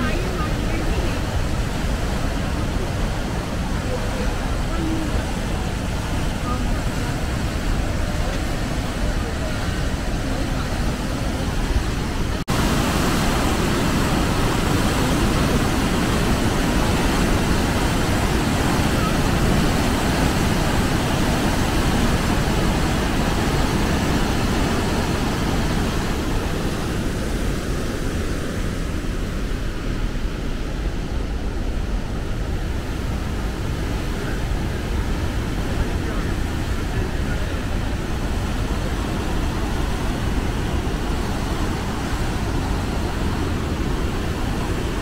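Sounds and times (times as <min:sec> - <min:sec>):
waterfall roaring: 0:00.0 - 0:45.0
whitewater rushing over rocks: 0:00.0 - 0:45.0.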